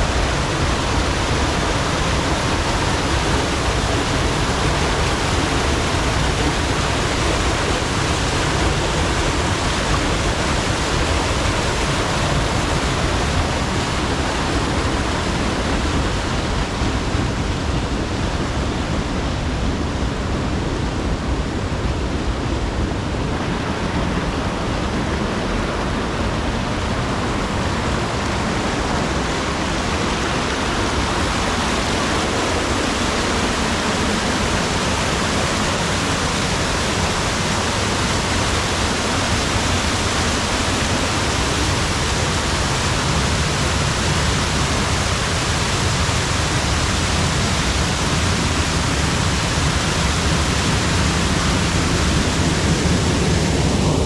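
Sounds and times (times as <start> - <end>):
loud rushing water: 0.0 - 54.0.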